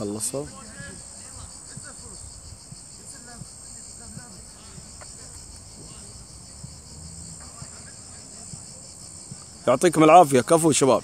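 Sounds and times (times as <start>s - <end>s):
faint distant voices: 0.0s - 11.0s
insects chirring: 0.0s - 11.0s.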